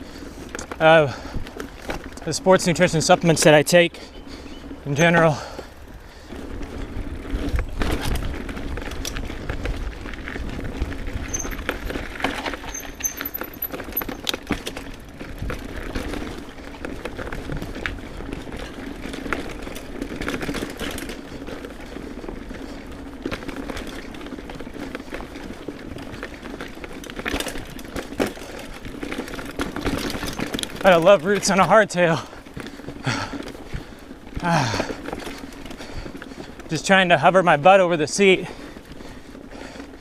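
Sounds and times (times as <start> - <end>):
bike chain and frame rattling: 0.0 - 40.0
bike tyres rolling on dirt: 0.0 - 40.0.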